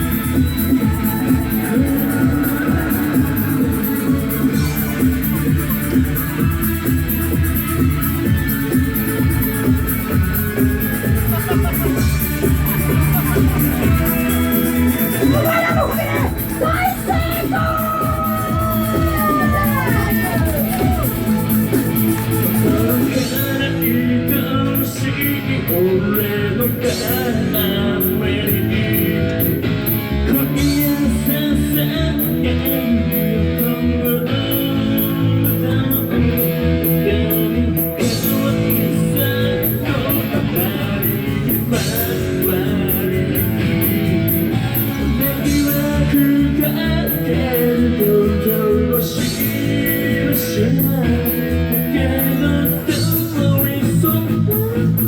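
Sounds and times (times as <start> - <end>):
drums with steady beat: 0.0 - 55.0
electric guitar: 0.0 - 55.0
person singing: 0.0 - 55.0.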